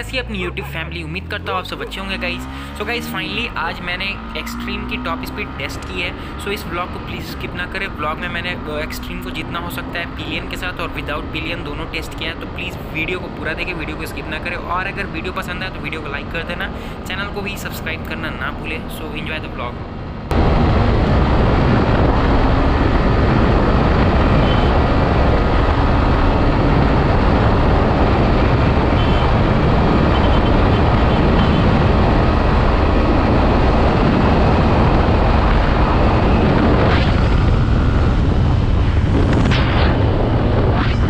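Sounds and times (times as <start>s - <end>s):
motorcycle engine at high speed: 0.5s - 41.0s.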